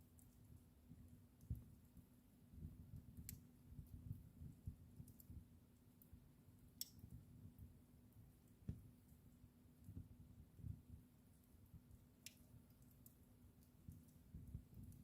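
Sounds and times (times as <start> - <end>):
fire crackles: 0.0 - 15.0
wood fire rumbling: 2.5 - 15.0.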